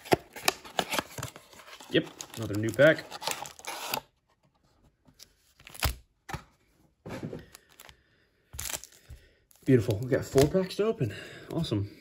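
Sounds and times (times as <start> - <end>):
cardboard and cards rustling: 0.0 - 8.0, 8.6 - 10.8.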